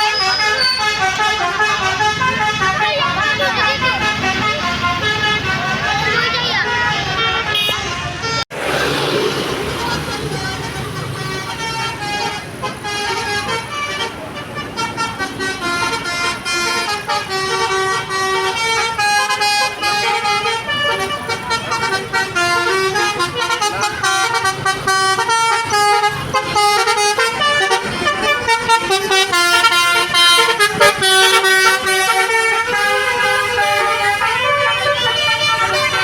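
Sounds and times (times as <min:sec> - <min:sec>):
multi-tone bus horn melody: 0:00.0 - 0:08.7, 0:09.5 - 0:36.0.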